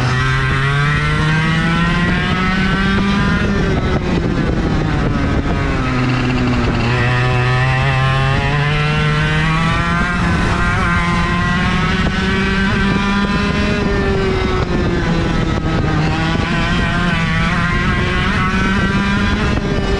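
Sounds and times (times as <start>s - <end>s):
kart engine revving: 0.0s - 19.9s.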